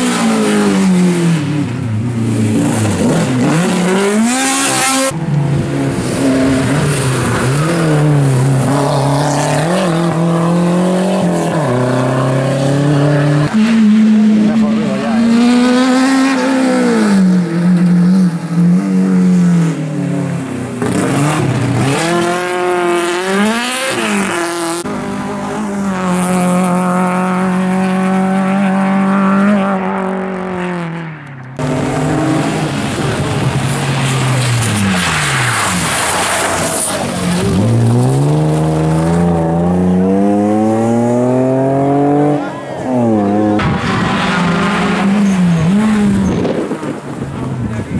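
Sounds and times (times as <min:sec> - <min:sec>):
car accelerating hard: 0:00.0 - 0:47.9
rally cars at full throttle: 0:00.0 - 0:47.9.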